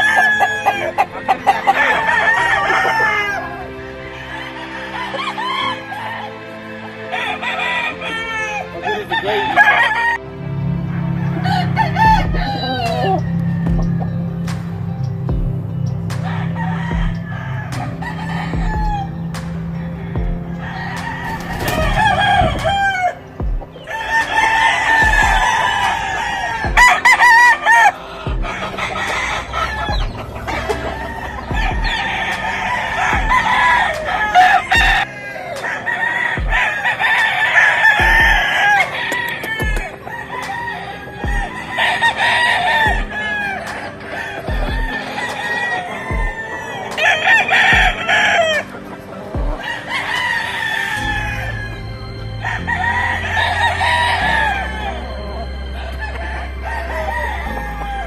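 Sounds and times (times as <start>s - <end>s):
chickens clucking: 0.0s - 58.0s
roosters crowing: 0.0s - 58.0s.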